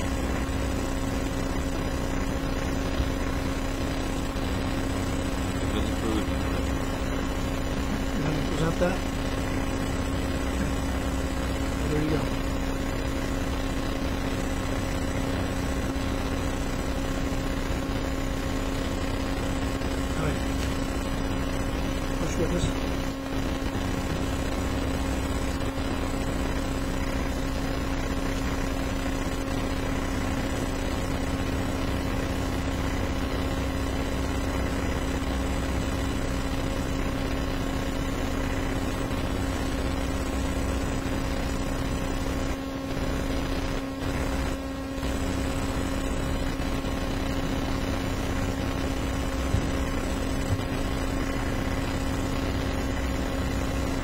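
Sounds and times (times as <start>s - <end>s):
background hum and hiss: 0.0s - 54.0s.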